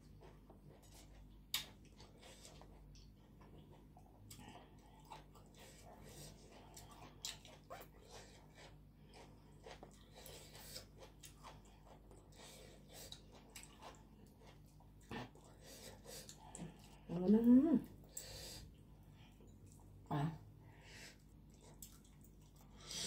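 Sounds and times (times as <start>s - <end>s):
person chewing and crunching: 0.0s - 17.1s, 21.1s - 23.0s.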